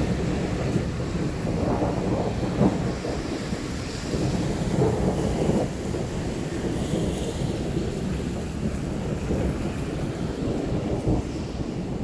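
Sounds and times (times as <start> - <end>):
low thunder rumble: 0.0 - 12.0
rain hiss: 0.0 - 12.0
wind buffeting microphone: 0.0 - 12.0.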